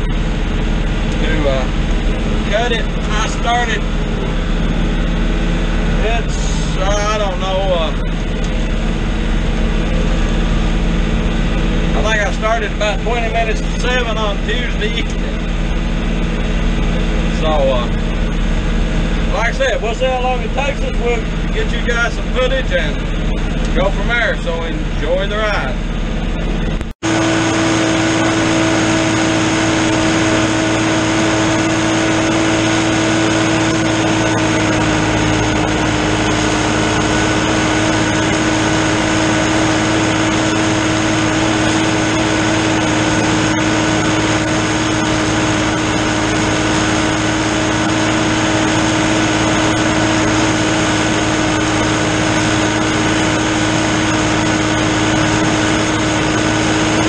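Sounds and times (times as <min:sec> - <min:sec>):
mower cutting hay: 0:00.0 - 0:25.7, 0:27.0 - 0:57.0
tractor diesel engine under load: 0:00.0 - 0:57.0.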